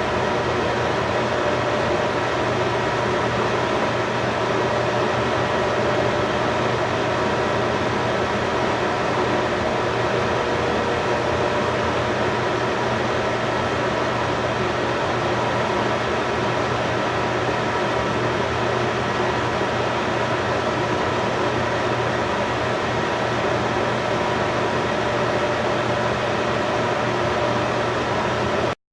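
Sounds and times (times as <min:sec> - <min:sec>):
steady machine hum: 0:00.0 - 0:28.8.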